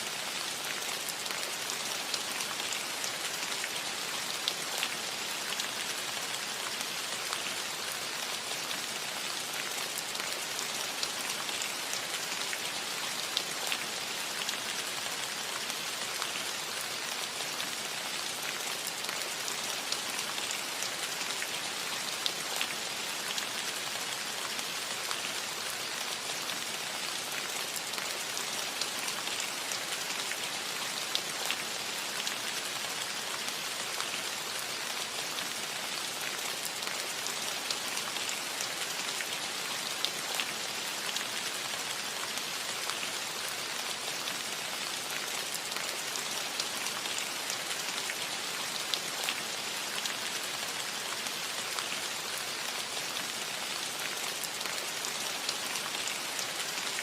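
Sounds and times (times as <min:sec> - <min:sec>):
light rain on a metal roof: 0:00.0 - 0:57.0.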